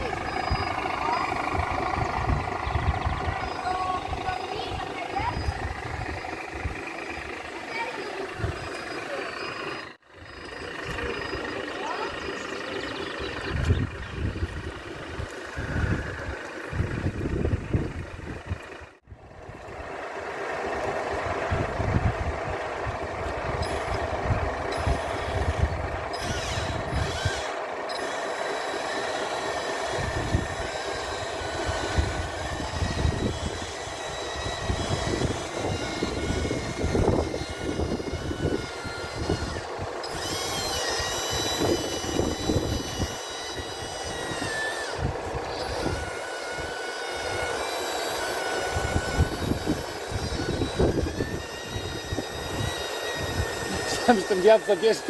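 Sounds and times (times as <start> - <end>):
wind buffeting microphone: 0.0 - 8.9, 10.1 - 19.9, 20.8 - 27.6, 29.4 - 55.0
small electric motors whining: 0.0 - 55.0.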